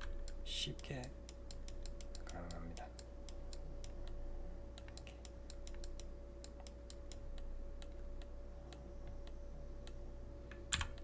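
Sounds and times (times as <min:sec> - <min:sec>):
computer mouse buttons clicking: 0:00.0 - 0:04.2, 0:04.8 - 0:11.0
steady electrical hum: 0:00.0 - 0:11.0.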